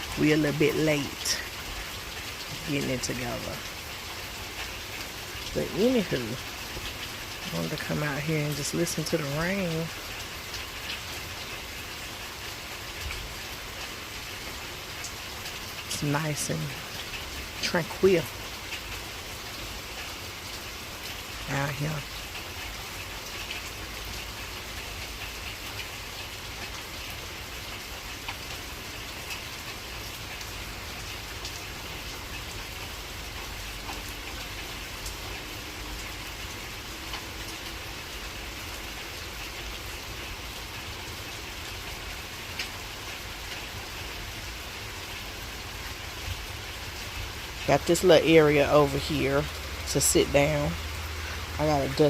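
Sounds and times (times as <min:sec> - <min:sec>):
heavy rain falling: 0:00.0 - 0:52.0
raindrops ticking: 0:00.0 - 0:52.0.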